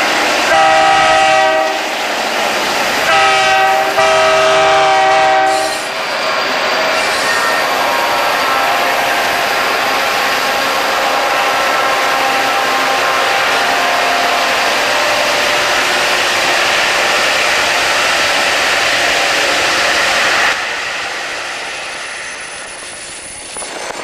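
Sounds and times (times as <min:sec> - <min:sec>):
freight train roaring: 0:00.0 - 0:24.0.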